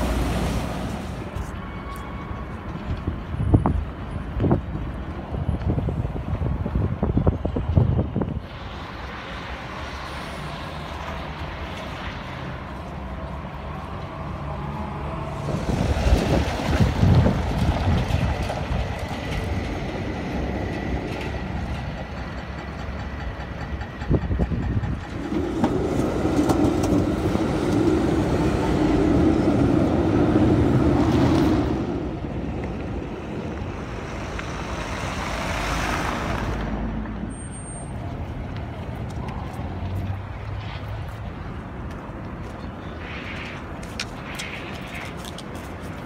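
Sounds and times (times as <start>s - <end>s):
street traffic noise: 0.0s - 46.0s
tram passing with motor hum: 0.0s - 46.0s.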